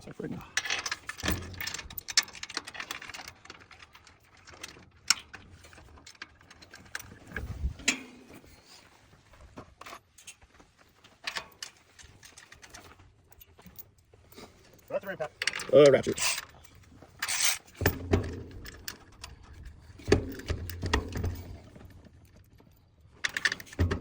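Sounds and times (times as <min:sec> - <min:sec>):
metal clicks of bolts and tools: 0:00.6 - 0:08.5, 0:11.2 - 0:13.8, 0:14.7 - 0:24.0.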